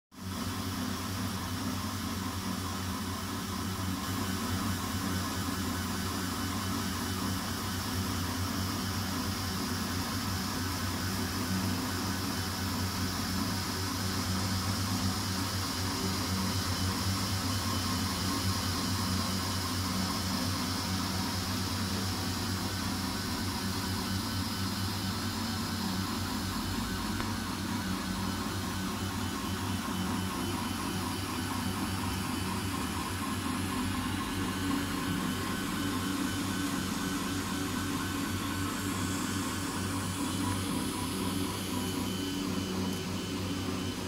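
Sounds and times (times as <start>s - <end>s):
printer fan and motors whirring: 0.2s - 44.0s.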